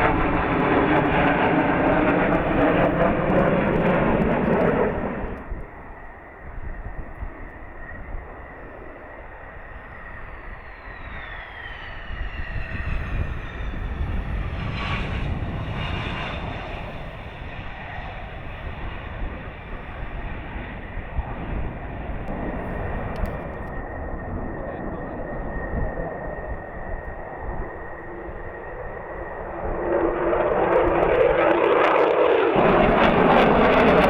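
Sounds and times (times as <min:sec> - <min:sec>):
fighter jet engine whine: 0:00.0 - 0:34.0.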